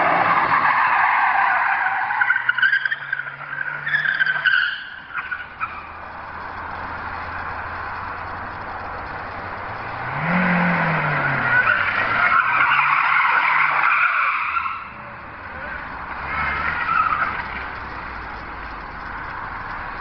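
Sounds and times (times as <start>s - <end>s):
car tyres squealing: 0.0s - 20.0s
car engine revving: 2.5s - 20.0s.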